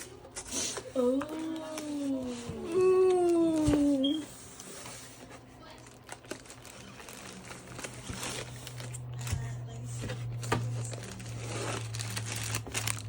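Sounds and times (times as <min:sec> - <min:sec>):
plastic packaging crinkling: 0:01.0 - 0:13.0.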